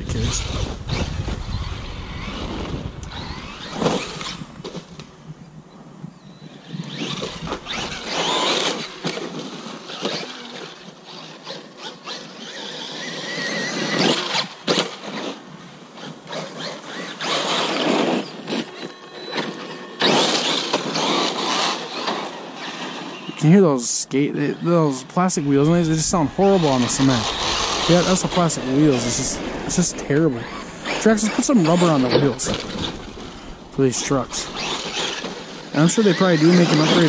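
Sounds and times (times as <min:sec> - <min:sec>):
plastic wheels scraping on road: 0:00.0 - 0:05.2, 0:06.6 - 0:37.0
electric motor whining: 0:00.0 - 0:05.5, 0:06.3 - 0:37.0.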